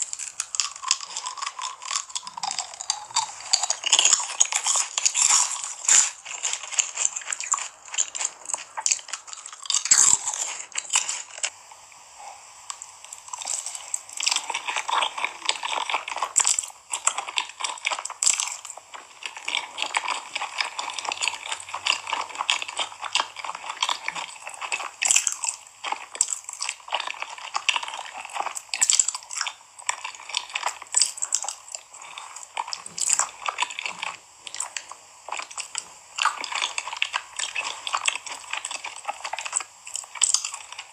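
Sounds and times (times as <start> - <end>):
person chewing crunchy food: 0.0 - 11.6, 12.2 - 40.9.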